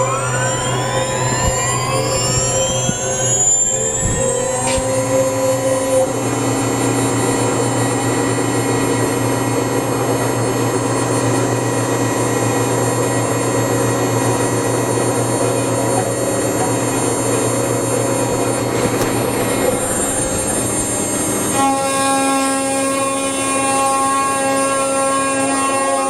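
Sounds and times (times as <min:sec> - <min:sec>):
spindle motor whining: 0:00.0 - 0:26.0.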